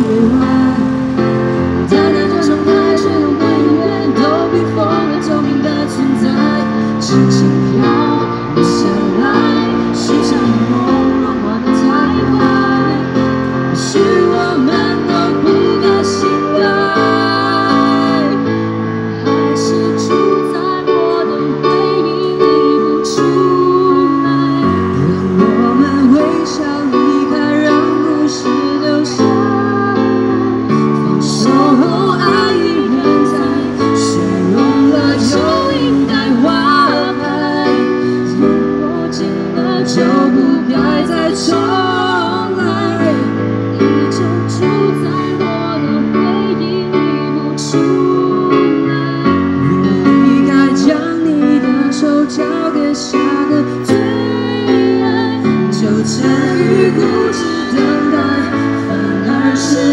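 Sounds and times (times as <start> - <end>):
electronic keyboard chords: 0.0 - 59.9
woman and man singing pop duet: 0.0 - 59.9.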